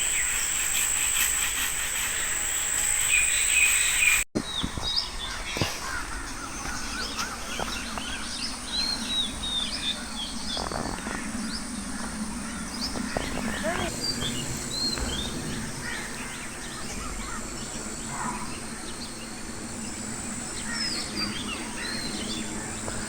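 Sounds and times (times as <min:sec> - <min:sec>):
high-pitched insect drone: 0:00.0 - 0:04.3, 0:08.7 - 0:23.0
insect chirps: 0:00.0 - 0:04.3, 0:06.6 - 0:23.0
small birds chirping: 0:00.0 - 0:23.0.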